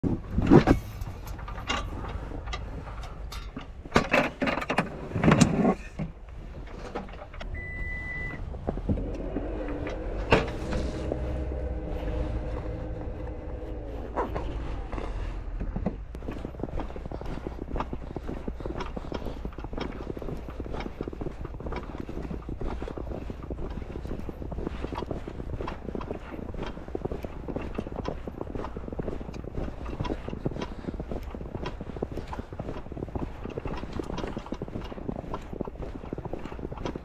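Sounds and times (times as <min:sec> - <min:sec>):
gear knocking and clattering: 0:00.0 - 0:07.5, 0:08.4 - 0:37.0.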